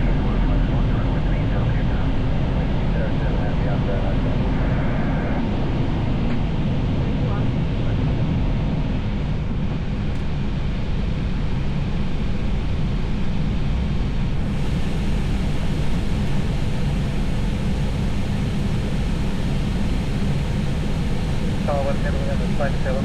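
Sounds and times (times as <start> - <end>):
engine and airflow rumble: 0.0 - 23.0.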